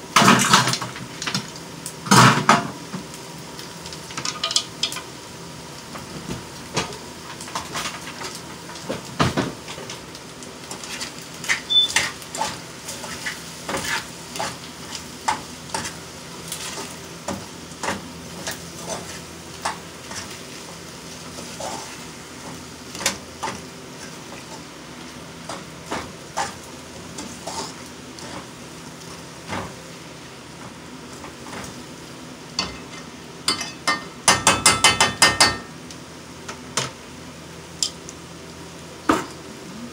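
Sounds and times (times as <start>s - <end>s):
low sizzle from pan: 0.0s - 39.9s.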